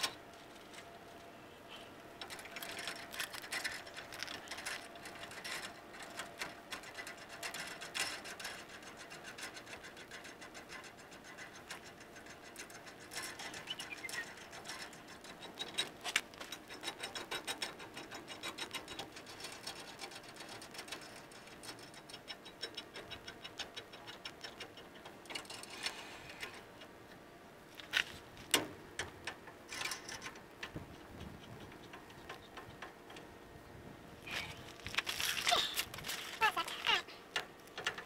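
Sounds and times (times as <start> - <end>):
sharp metal clicks and knocks: 2.2 - 27.0, 27.8 - 33.3, 34.7 - 38.0.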